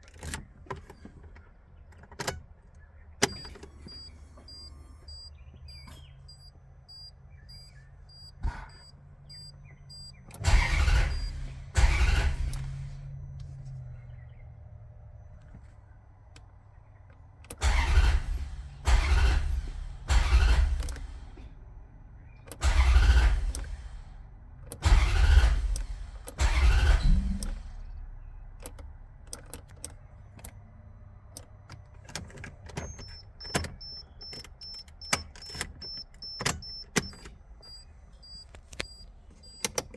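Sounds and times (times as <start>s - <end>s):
engine starter cranking: 3.2s - 14.2s, 17.2s - 39.9s.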